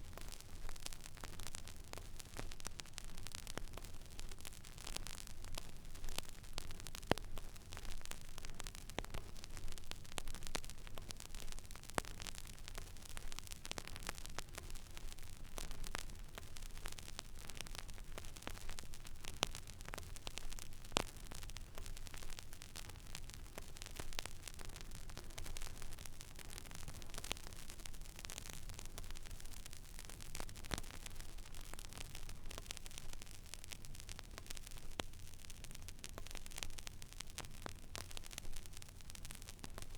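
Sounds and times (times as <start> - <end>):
vinyl crackles and pops: 0.0 - 39.9.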